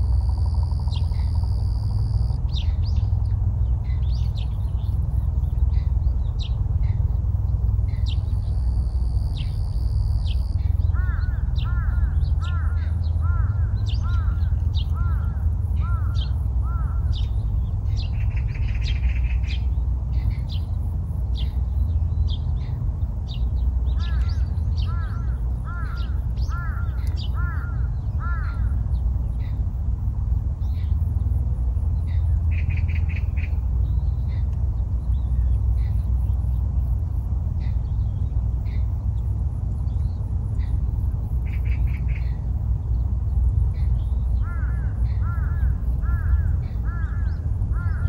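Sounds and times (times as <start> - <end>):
small birds chirping: 0.0 - 48.0
steady low rumble: 0.0 - 48.0.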